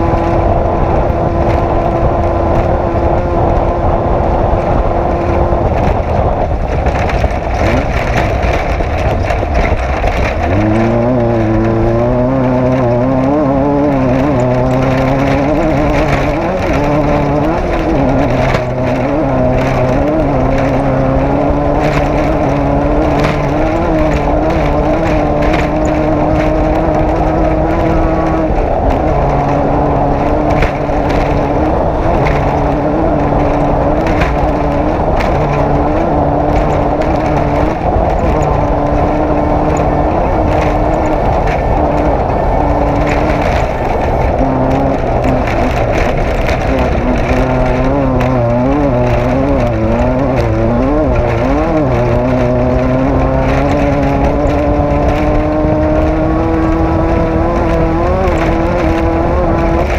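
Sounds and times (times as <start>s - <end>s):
race vehicle engine running: 0.0s - 59.9s
sharp knocks and rattles: 0.0s - 59.9s.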